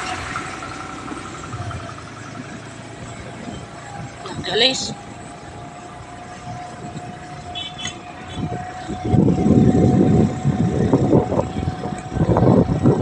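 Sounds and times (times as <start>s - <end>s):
motorcycle engine hum: 0.0s - 13.0s
wind buffeting microphone: 0.0s - 13.0s.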